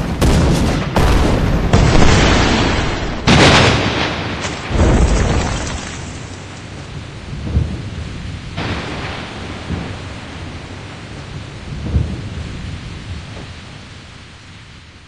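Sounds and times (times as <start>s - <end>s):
thunder: 0.0s - 13.8s
steady rain: 0.0s - 15.0s.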